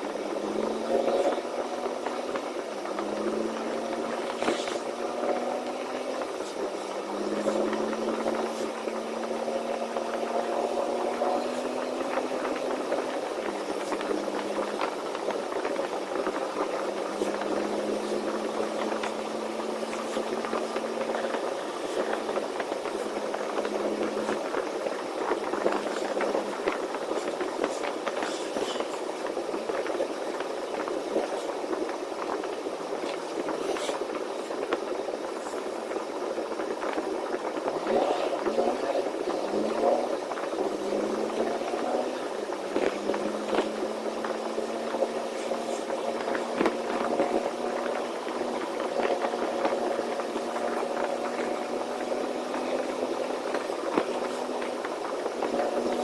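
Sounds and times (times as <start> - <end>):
road noise: 0.0 - 56.0
truck engine drone: 0.0 - 56.0.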